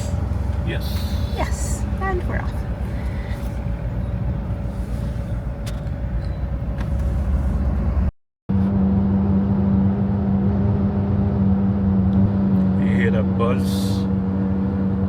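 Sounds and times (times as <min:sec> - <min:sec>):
road and engine rumble in car: 0:00.0 - 0:15.0.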